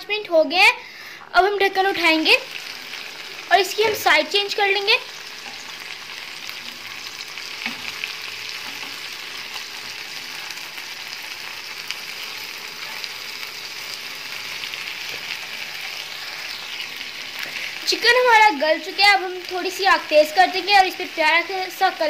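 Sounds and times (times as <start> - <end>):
chicken sizzling in a frying pan: 1.4 - 22.0.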